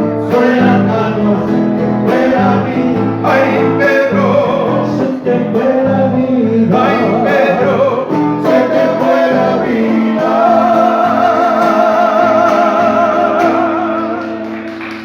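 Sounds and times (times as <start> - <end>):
person singing with vibrato: 0.0 - 14.5
guitar accompaniment: 0.0 - 15.0.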